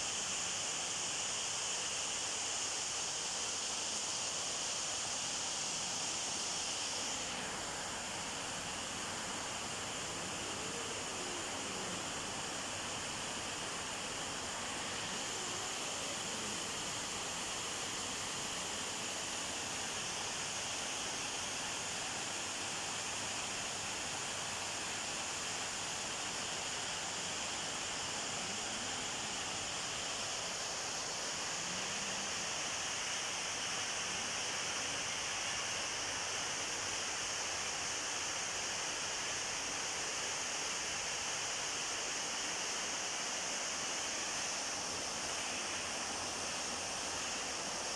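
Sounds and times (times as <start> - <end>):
steady background hiss: 0.0 - 47.9.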